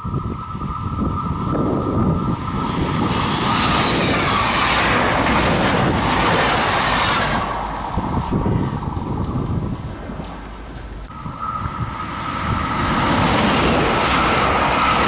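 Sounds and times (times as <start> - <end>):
train wheels rushing on rails: 0.0 - 15.0.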